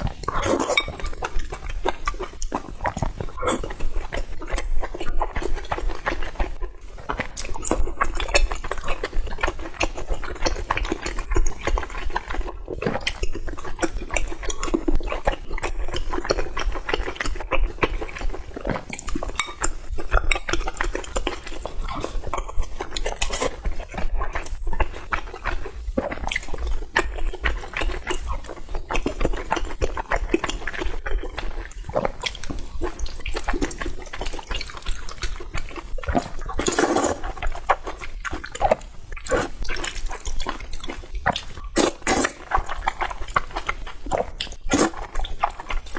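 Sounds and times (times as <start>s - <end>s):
wet chewing sounds: 0.0s - 45.9s.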